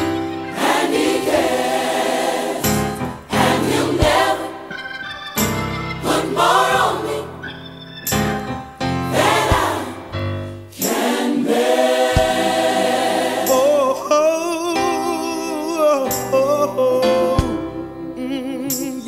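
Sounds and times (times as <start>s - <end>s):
gospel choir singing: 0.0s - 15.8s.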